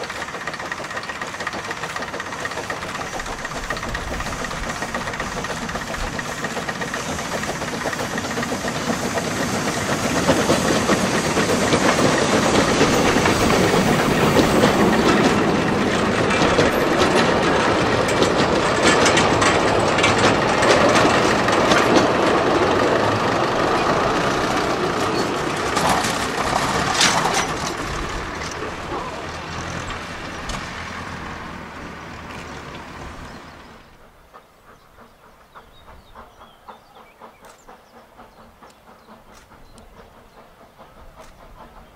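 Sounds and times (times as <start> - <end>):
steam locomotive passing: 0.0 - 41.9
wagons clacking over rail joints: 0.0 - 41.9.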